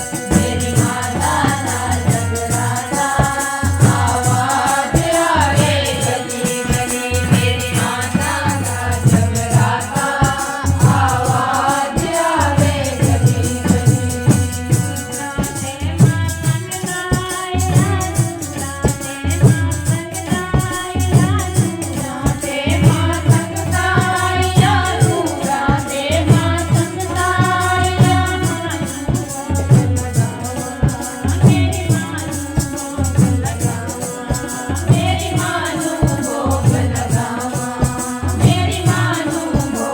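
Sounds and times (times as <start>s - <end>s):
quick percussion beat: 0.0s - 39.9s.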